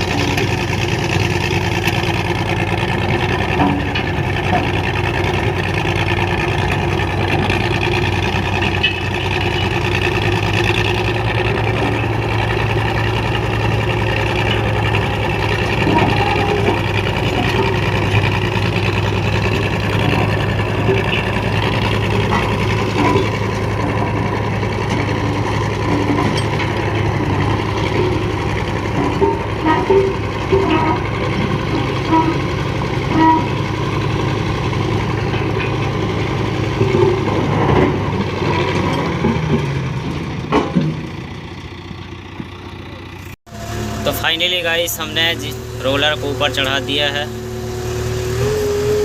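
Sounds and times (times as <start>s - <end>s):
diesel engine under load: 0.0s - 49.0s.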